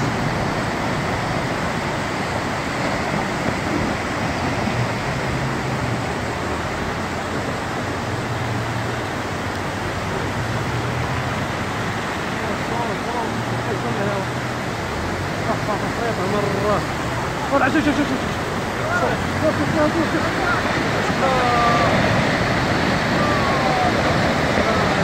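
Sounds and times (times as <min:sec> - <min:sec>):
low engine hum: 0:00.0 - 0:25.0
road noise rushing: 0:00.0 - 0:25.0.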